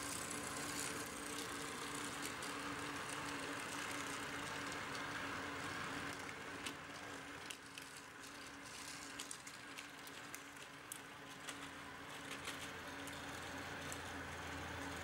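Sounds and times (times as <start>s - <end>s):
electric motors humming: 0.0s - 15.0s.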